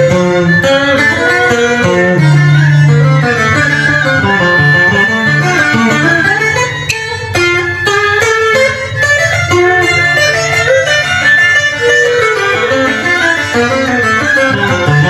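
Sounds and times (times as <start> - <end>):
electric guitar melody with bent notes: 0.0 - 15.0
two-string fiddle playing: 0.0 - 15.0.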